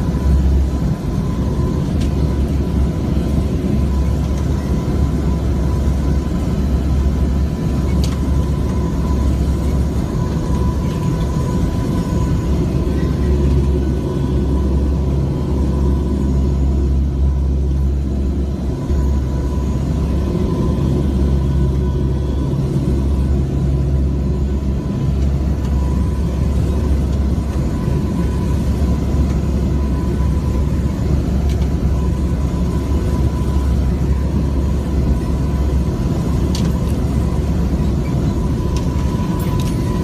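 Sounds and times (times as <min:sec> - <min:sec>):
turboprop engines droning: 0:00.0 - 0:40.0.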